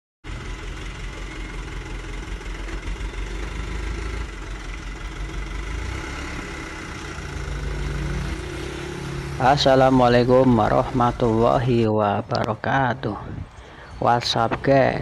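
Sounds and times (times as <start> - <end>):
vehicle engine idling: 0.2 - 15.0.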